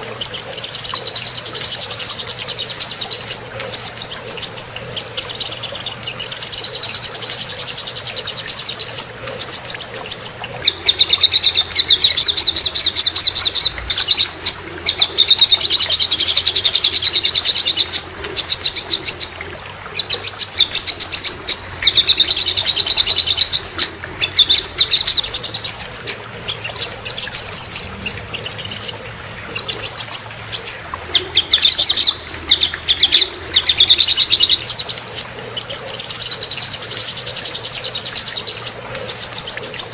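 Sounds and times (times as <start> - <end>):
songbird singing rapid trills: 0.0 - 39.9.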